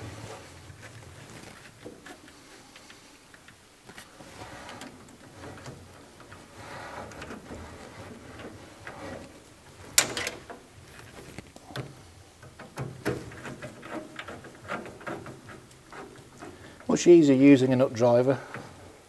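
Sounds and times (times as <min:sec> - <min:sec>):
rubber hose rubbing: 0:00.0 - 0:03.1, 0:03.9 - 0:19.0.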